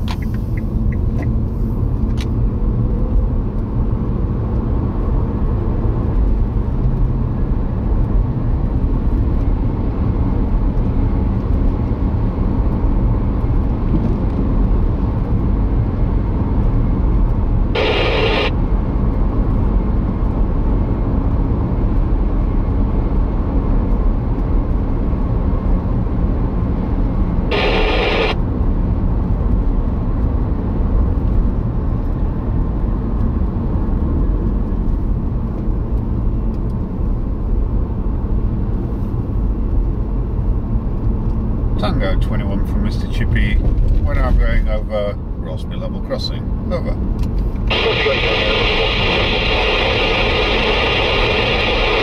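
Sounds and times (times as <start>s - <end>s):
car interior road rumble: 0.0s - 52.0s.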